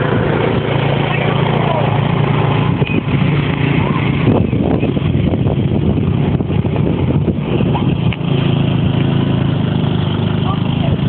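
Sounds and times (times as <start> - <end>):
engine running steadily: 0.0 - 11.0
rough noise: 0.0 - 11.0.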